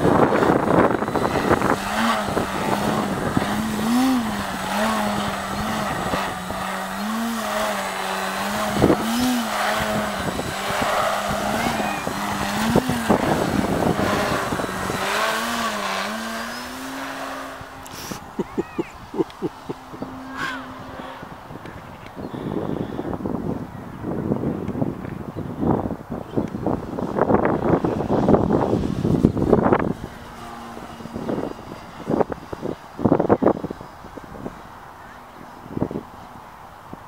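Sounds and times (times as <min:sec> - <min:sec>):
model plane motor whine: 0:00.0 - 0:36.6
wind noise: 0:00.0 - 0:37.0.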